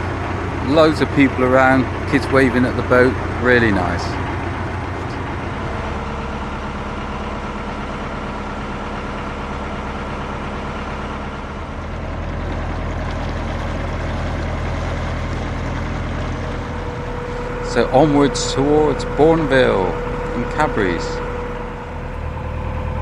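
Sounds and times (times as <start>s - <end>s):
boat engine chugging: 0.0s - 23.0s.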